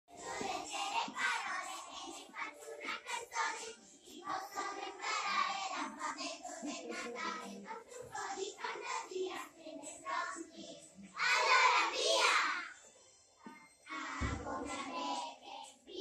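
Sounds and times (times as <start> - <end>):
children singing together: 0.1 - 12.8, 13.9 - 16.0.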